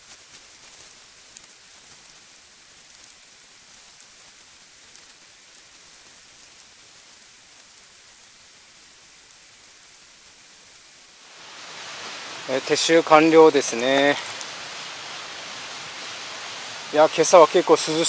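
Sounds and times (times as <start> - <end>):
faint stream rushing: 0.0 - 18.0.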